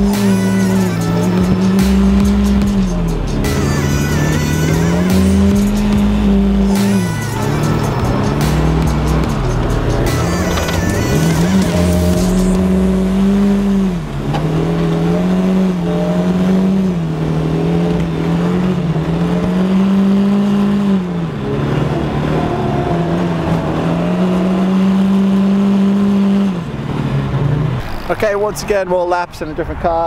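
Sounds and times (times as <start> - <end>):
car engine at high revs: 0.0 - 28.9.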